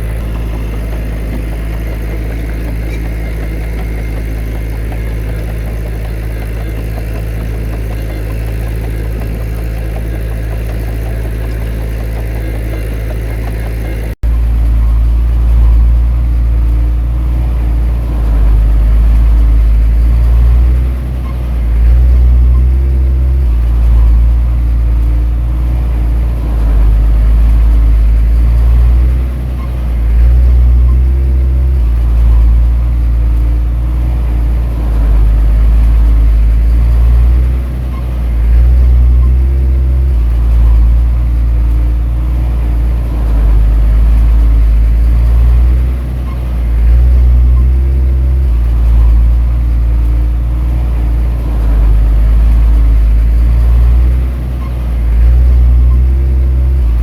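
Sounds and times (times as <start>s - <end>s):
heavy diesel machinery engine: 0.0s - 57.0s.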